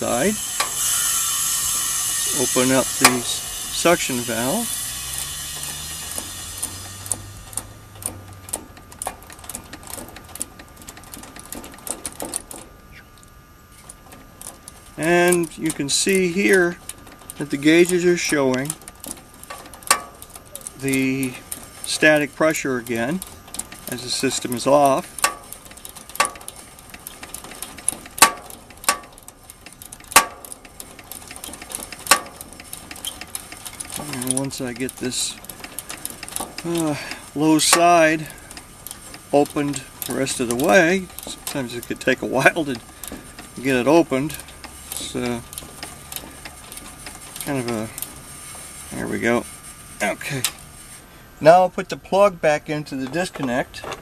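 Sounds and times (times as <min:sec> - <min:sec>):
ratchet wrench clicking: 0:00.0 - 0:12.6, 0:13.8 - 0:49.2
low hum: 0:00.0 - 0:52.0.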